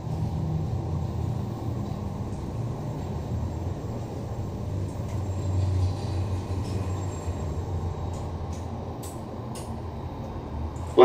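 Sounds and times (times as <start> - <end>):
elevator rumble and hum: 0.0 - 11.0.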